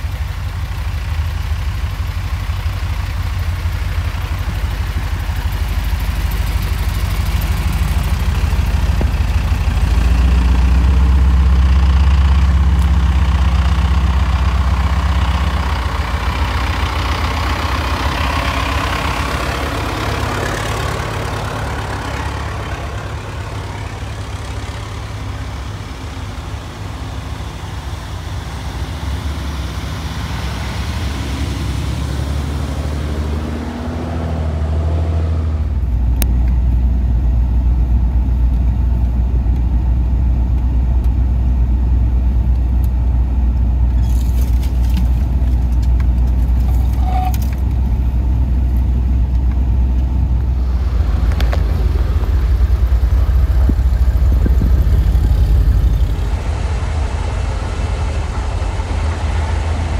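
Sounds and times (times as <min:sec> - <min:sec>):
car engine revving: 0:00.0 - 0:36.3, 0:44.0 - 0:59.9
low engine drone in cabin: 0:00.0 - 0:59.9.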